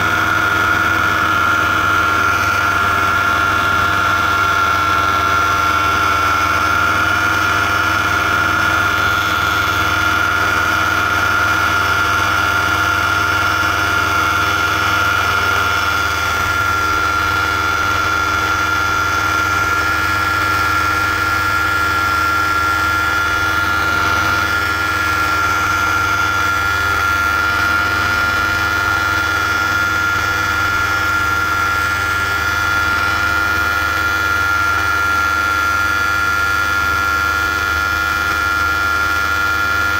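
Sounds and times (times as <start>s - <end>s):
paramotor engine and propeller drone: 0.0s - 39.9s.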